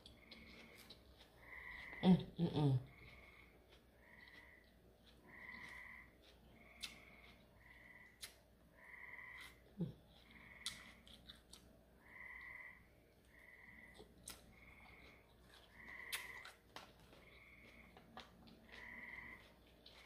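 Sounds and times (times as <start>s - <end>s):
frogs croaking: 1.4s - 11.0s, 12.0s - 16.5s, 17.2s - 17.9s, 18.6s - 20.0s.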